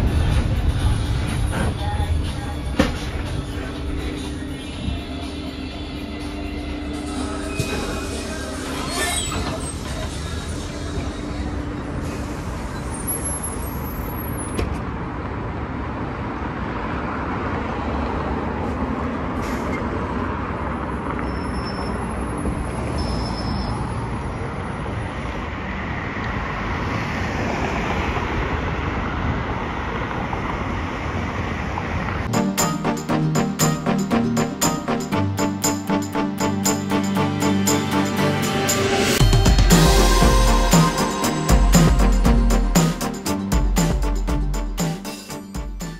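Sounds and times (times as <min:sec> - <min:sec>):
city traffic noise: 0:00.0 - 0:45.9.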